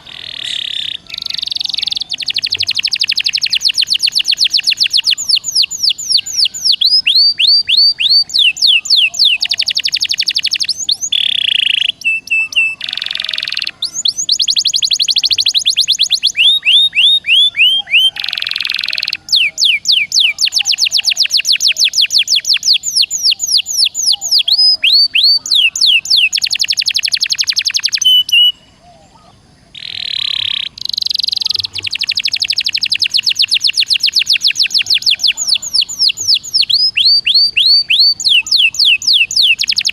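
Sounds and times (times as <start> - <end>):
songbird whistled song: 0.0 - 39.9.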